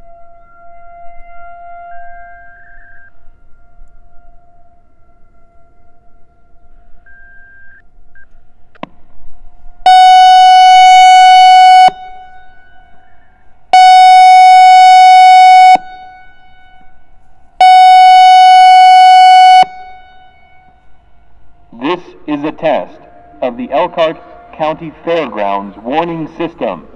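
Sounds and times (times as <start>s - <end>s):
warning siren tone blasts: 0.0s - 26.9s.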